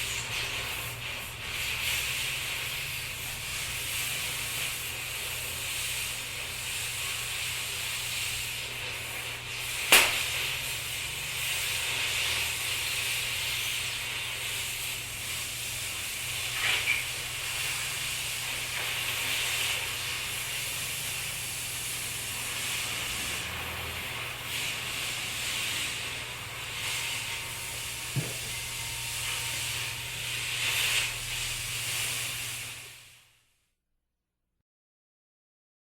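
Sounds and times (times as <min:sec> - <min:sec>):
spray paint can hissing: 0:00.0 - 0:33.2.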